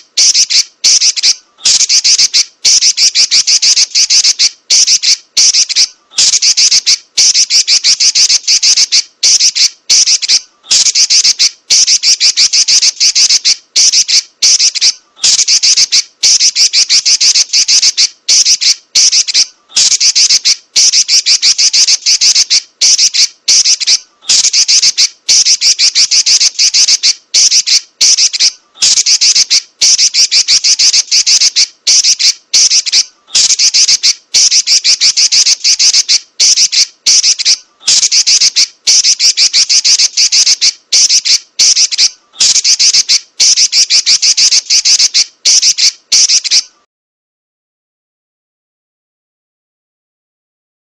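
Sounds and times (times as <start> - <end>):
bird shrill chattering call: 0.0 - 46.8.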